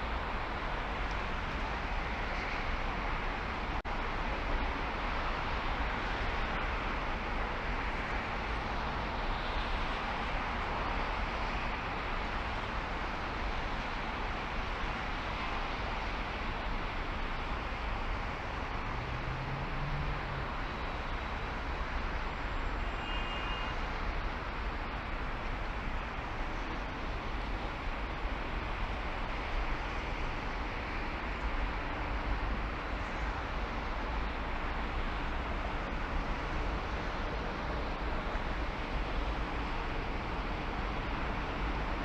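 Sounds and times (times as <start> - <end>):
road and wind noise: 0.0 - 42.0.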